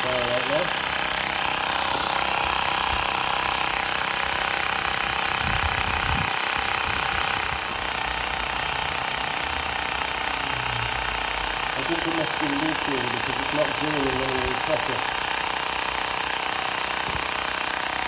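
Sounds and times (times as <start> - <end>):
electric pump running: 0.0 - 18.0.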